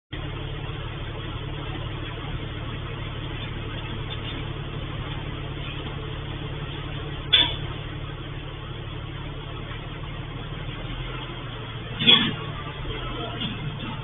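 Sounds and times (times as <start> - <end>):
low mechanical hum: 0.1 - 14.0.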